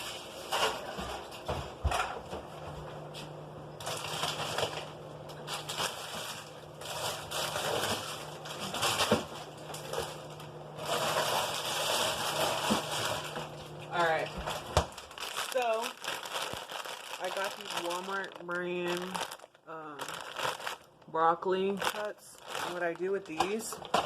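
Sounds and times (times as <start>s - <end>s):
low steady hum: 0.0s - 24.0s
packaging rustling and crinkling: 3.8s - 24.0s.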